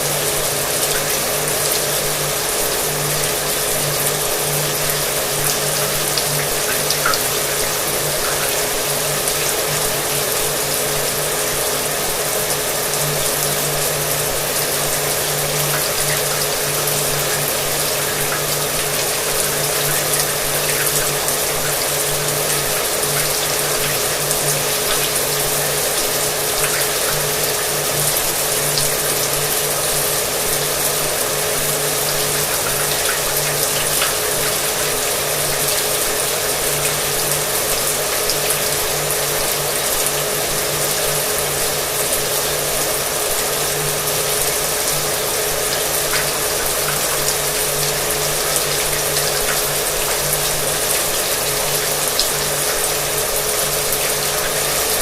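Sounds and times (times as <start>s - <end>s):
shower water running: 0.0s - 55.0s.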